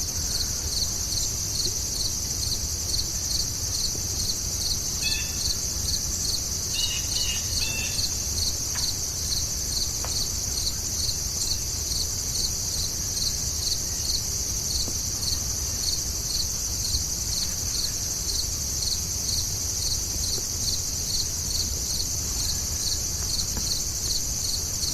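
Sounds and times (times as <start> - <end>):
insects chirping: 0.0 - 24.9.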